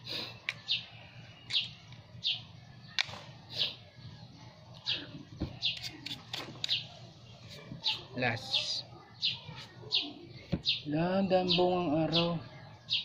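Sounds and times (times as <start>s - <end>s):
small bird chirping: 0.1s - 13.0s.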